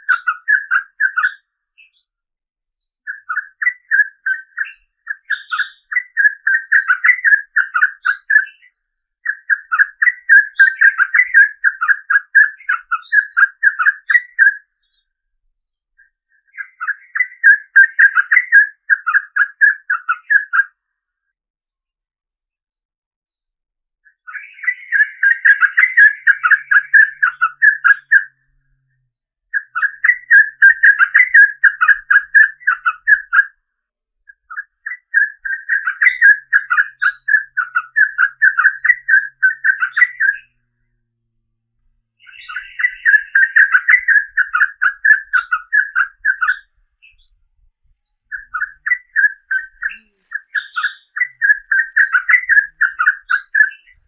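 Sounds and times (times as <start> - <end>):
bird singing rapid chattering notes: 0.0 - 2.2, 2.8 - 15.1, 15.7 - 20.8, 24.0 - 54.0.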